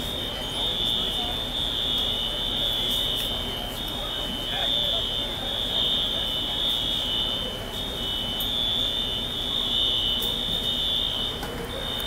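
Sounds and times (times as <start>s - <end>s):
fire alarm high-pitched tone: 0.0s - 12.0s.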